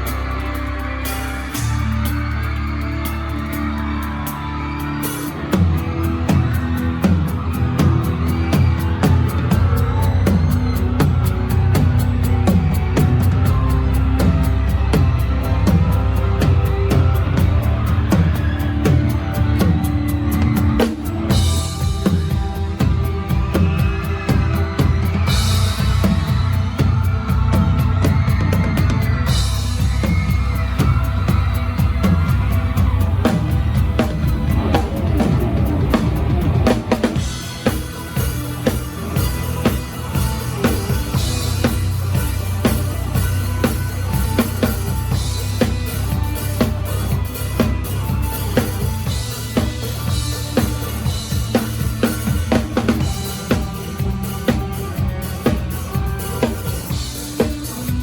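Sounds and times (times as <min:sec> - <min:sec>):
heavy bass line: 0:00.0 - 0:58.0.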